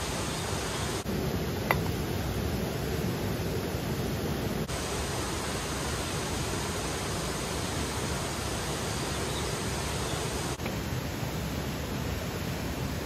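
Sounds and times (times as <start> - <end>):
water flowing over rocks: 0.0 - 13.0.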